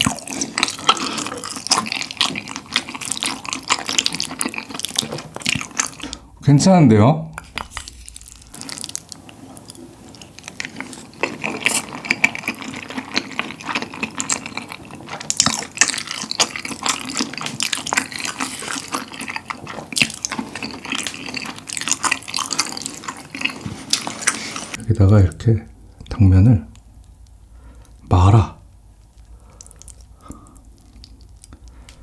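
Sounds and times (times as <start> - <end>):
wet chewing of noodles: 0.0 - 6.4, 7.4 - 24.8, 26.7 - 28.1, 28.9 - 32.0.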